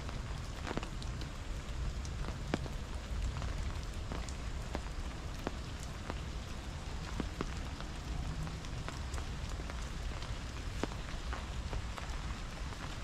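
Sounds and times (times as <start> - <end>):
sharp ticks of raindrops: 0.0 - 13.0
steady rain hiss: 0.0 - 13.0.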